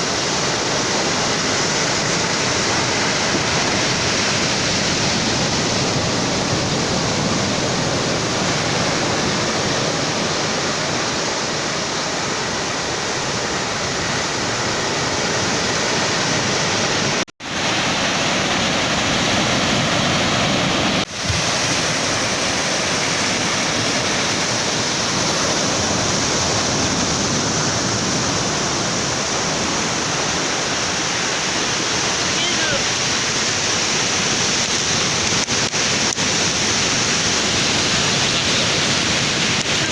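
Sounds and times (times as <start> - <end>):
ocean surf rushing onto beach: 0.0 - 39.9.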